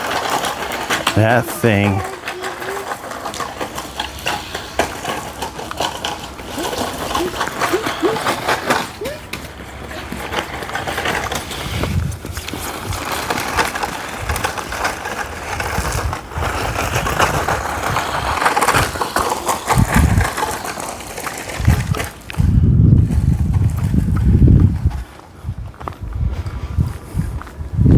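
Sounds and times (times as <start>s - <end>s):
rc truck tyres crunching: 0.0s - 27.9s.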